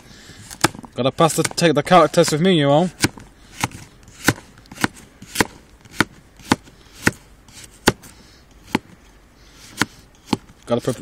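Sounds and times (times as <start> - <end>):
knife chopping carrot: 0.5 - 9.0, 9.6 - 11.0.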